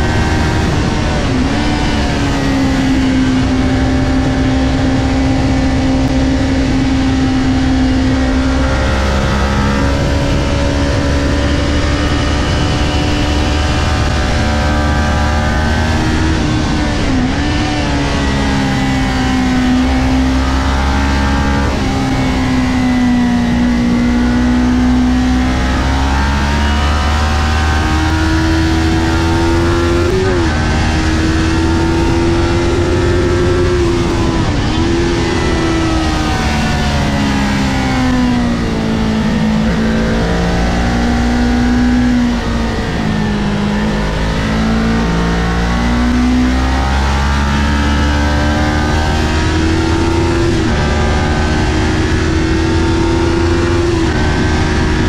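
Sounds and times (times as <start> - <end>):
motorcycle engine at high revs: 0.0 - 55.0
wind rush: 0.0 - 55.0.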